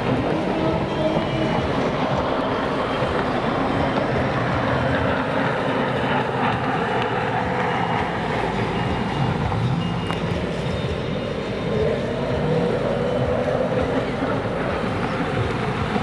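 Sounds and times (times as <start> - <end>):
jet ski engines revving: 0.0 - 16.0.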